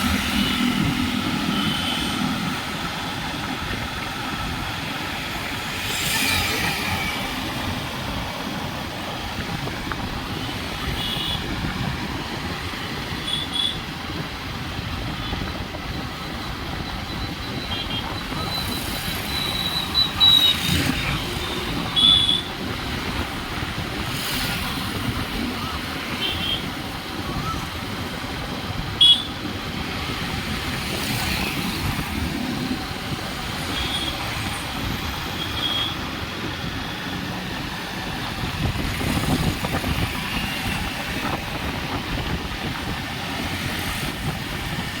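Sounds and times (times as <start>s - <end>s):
traffic on a wet road: 0.0s - 45.0s.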